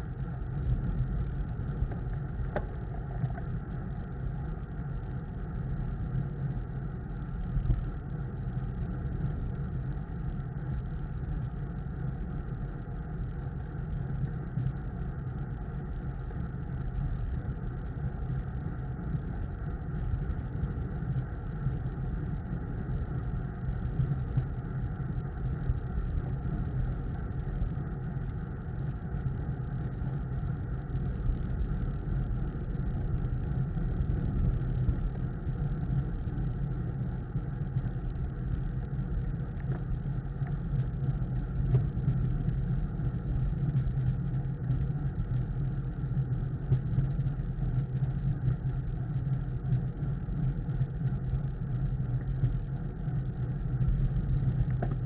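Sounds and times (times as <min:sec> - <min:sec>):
road noise rumble: 0:00.0 - 0:55.0
wind rush on microphone: 0:00.0 - 0:55.0.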